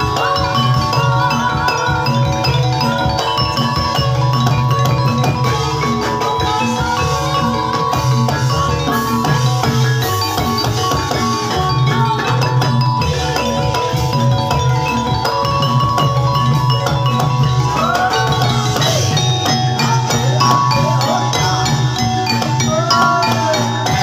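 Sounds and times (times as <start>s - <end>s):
drum beats: 0.0s - 24.0s
gliding melodic line: 0.0s - 24.0s
metal mallet instruments ringing: 0.0s - 24.0s.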